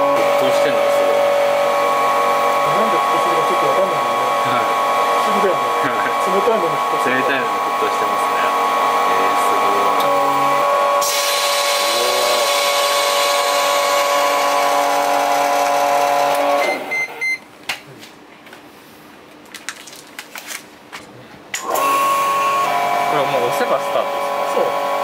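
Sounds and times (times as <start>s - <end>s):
vacuum pump humming and whining: 0.0s - 17.8s, 20.9s - 25.0s.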